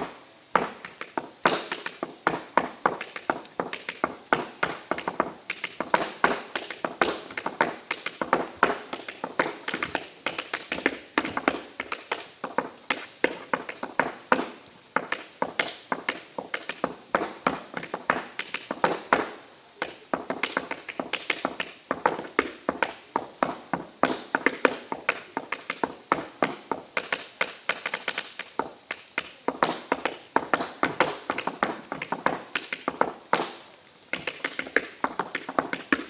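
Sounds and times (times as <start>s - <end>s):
tap shoes on hard surface: 0.6s - 36.0s.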